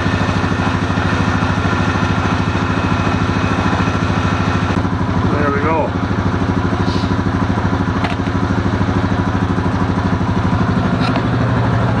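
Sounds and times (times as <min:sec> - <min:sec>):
quad engine idling: 0:00.0 - 0:12.0.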